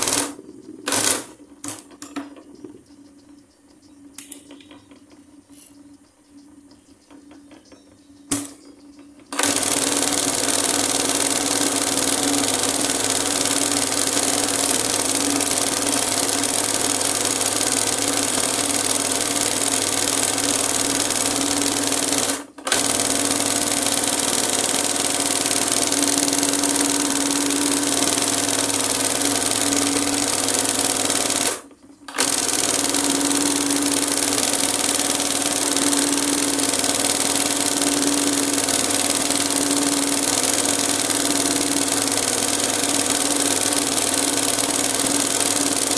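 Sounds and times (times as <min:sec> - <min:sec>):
embroidery machine stitching: 0:00.0 - 0:01.9, 0:09.3 - 0:45.9.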